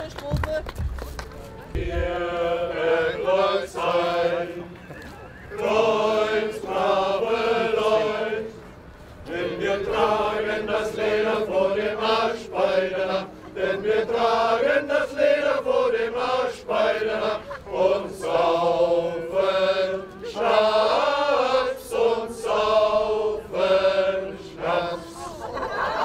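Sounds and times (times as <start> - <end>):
choir singing: 1.7 - 26.0.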